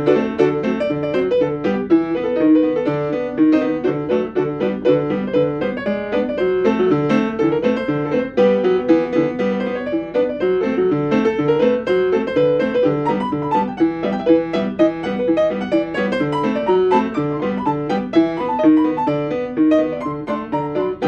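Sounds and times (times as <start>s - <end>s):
piano tune: 0.0s - 21.0s.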